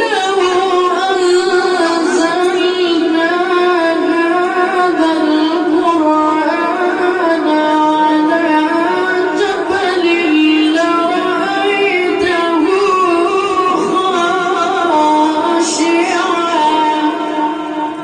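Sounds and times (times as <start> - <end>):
child chanting melodically: 0.0 - 18.0.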